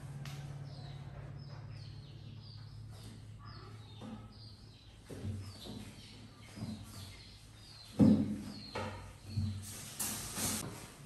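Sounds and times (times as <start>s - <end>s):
bird chirping: 0.1s - 10.4s.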